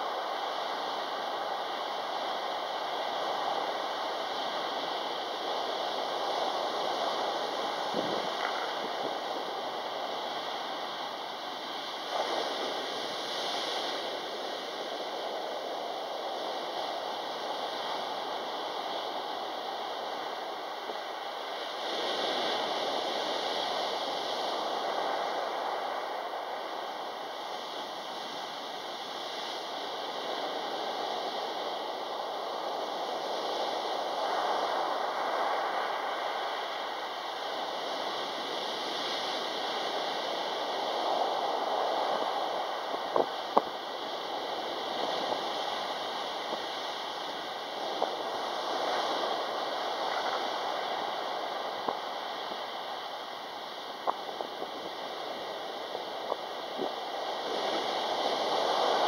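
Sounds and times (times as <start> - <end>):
surf washing up pebble beach: 0.0 - 59.0.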